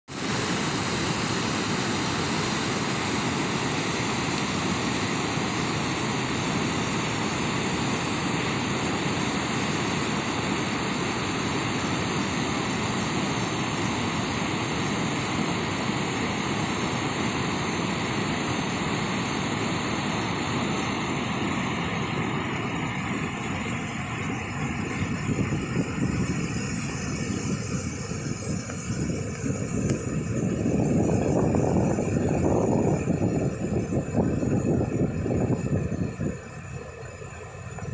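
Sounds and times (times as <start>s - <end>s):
creek rapids: 0.1s - 34.6s.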